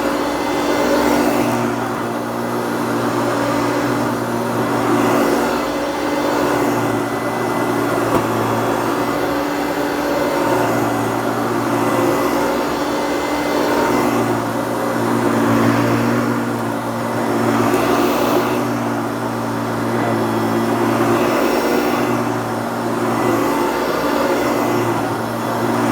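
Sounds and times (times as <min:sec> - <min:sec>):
vacuum cleaner running: 0:00.0 - 0:25.9.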